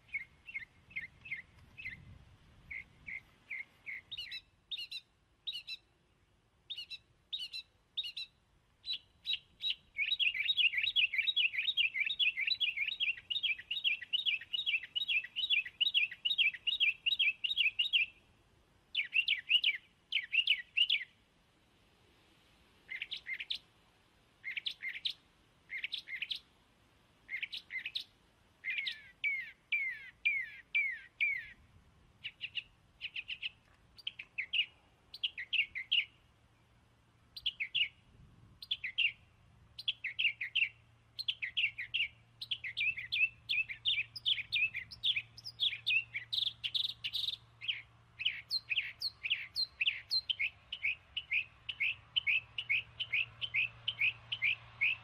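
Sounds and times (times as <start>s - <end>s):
small bird chirping: 0.0s - 5.9s, 6.7s - 18.2s, 18.9s - 21.2s, 22.9s - 23.7s, 24.4s - 26.5s, 27.2s - 31.6s, 32.2s - 36.2s, 37.3s - 38.0s, 38.6s - 55.0s.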